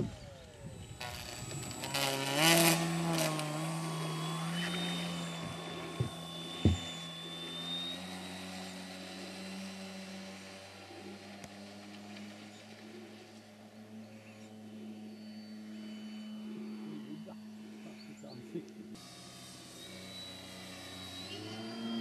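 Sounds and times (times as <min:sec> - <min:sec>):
model plane motor droning: 0:00.0 - 0:22.0.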